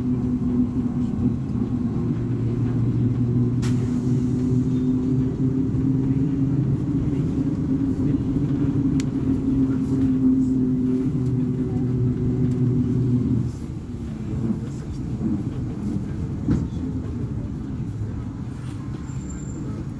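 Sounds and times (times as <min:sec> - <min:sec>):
bus diesel engine running: 0:00.0 - 0:19.9.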